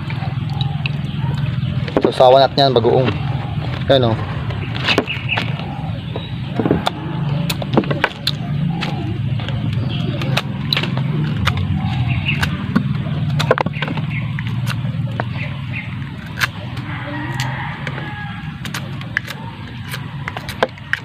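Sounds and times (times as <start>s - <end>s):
steady low hum: 0.0s - 21.0s
crunching and chewing: 3.0s - 21.0s.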